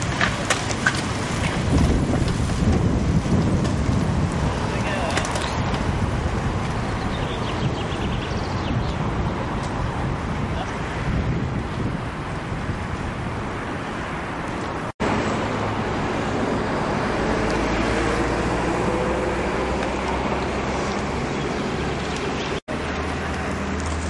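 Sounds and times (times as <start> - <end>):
steady outdoor noise: 0.0 - 24.0.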